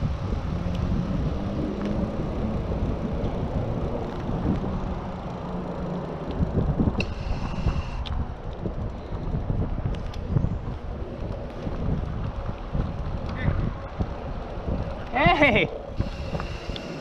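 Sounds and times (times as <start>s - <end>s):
bicycle tyre and road rumble: 0.0s - 17.0s
wind rushing over microphone: 0.0s - 17.0s.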